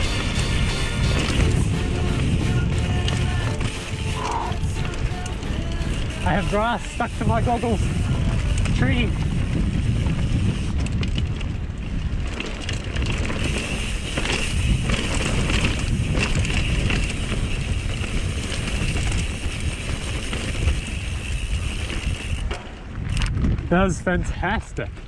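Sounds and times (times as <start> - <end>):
bike knocking and rattling: 0.0 - 25.0
wind rushing over microphone: 0.0 - 25.0.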